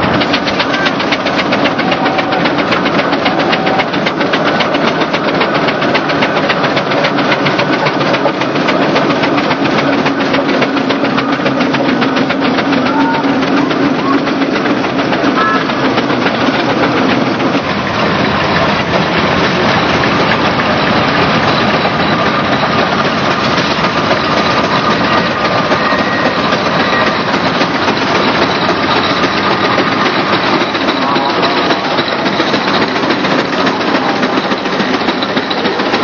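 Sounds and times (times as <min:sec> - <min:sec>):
steam traction engine running: 0:00.0 - 0:36.0.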